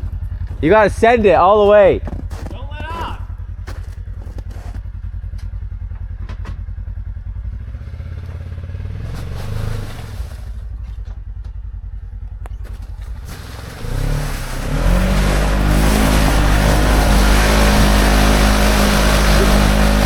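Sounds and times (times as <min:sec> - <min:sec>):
utility vehicle engine idling: 0:00.0 - 0:20.0.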